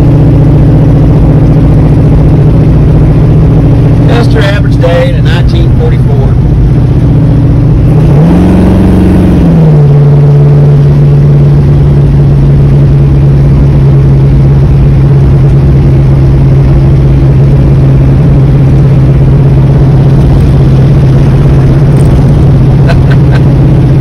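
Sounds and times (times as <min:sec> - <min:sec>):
car engine driving: 0:00.0 - 0:24.0.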